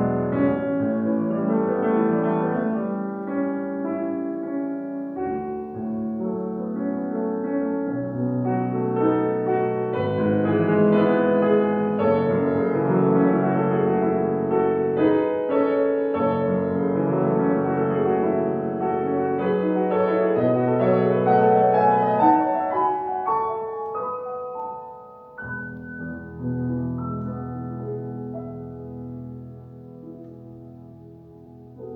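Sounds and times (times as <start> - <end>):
classical chamber music: 0.0 - 31.9
piano: 0.0 - 31.9.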